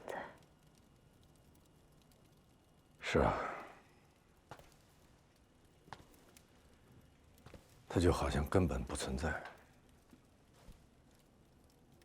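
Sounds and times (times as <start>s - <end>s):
soft ticks: 0.0s - 3.0s, 4.0s - 7.7s, 8.9s - 12.0s.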